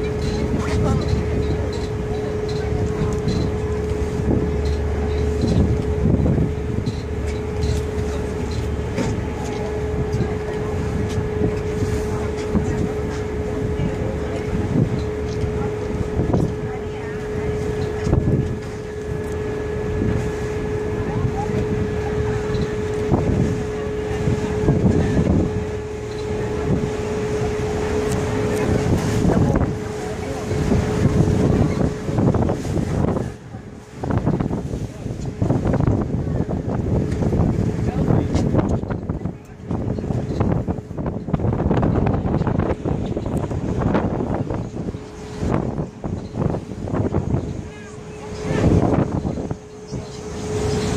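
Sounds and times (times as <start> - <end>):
boat engine rumbling: 0.0 - 50.9
constant hum tone: 0.0 - 50.9
wind buffeting microphone: 0.0 - 50.9.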